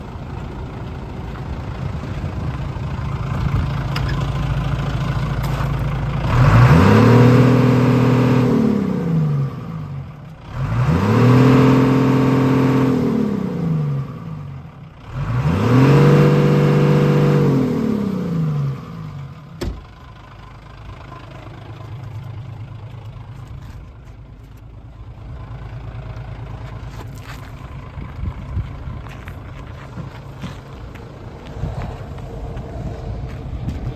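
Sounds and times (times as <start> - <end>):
diesel truck engine idling and revving: 0.0 - 33.9.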